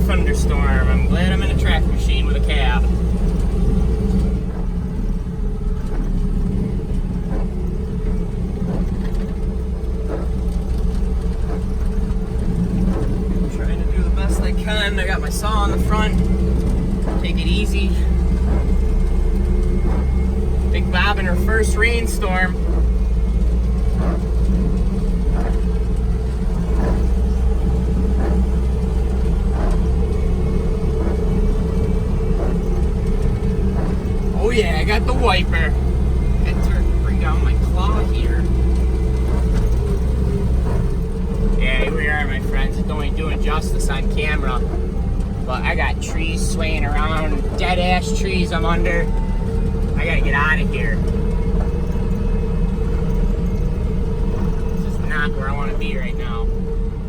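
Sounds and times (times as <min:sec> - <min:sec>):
diesel engine running: 0:00.0 - 0:57.0
windshield wiper swishing: 0:00.0 - 0:57.0.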